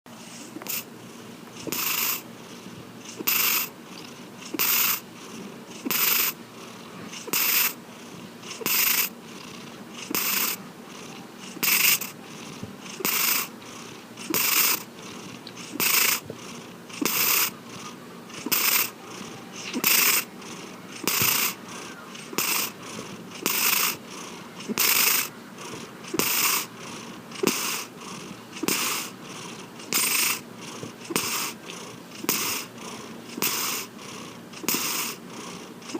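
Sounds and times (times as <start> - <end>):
cat snoring: 0.2 - 35.9.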